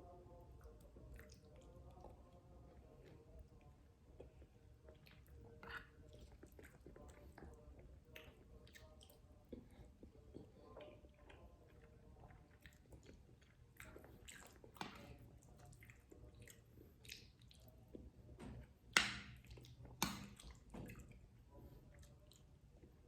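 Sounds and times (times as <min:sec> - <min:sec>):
wet chewing and mouth sounds: 0:00.0 - 0:23.0.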